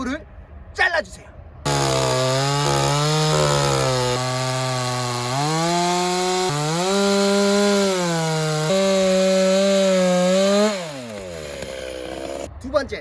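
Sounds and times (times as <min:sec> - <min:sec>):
chainsaw cutting a log: 0:01.7 - 0:12.5.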